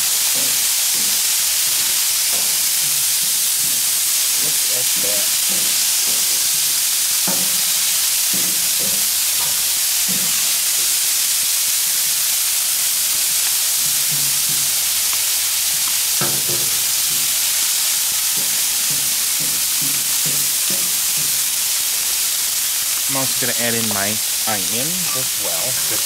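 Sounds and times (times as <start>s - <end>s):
food sizzling on griddle: 0.0s - 26.0s.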